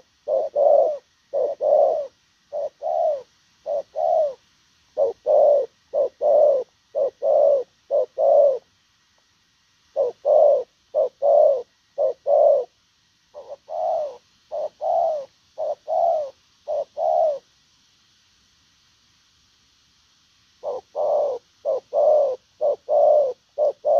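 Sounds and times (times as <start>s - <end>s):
dove cooing: 0.0s - 8.7s, 9.9s - 17.5s, 20.6s - 23.9s.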